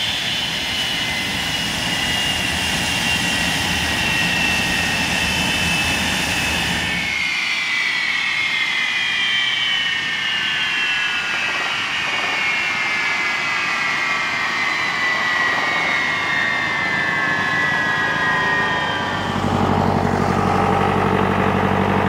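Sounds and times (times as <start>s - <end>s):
jet engine winding down: 0.0s - 22.0s.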